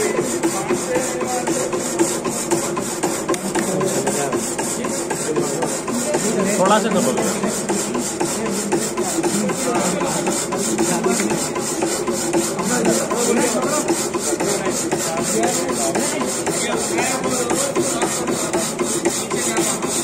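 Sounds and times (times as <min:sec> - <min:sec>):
power hacksaw rasping through metal: 0:00.0 - 0:20.0.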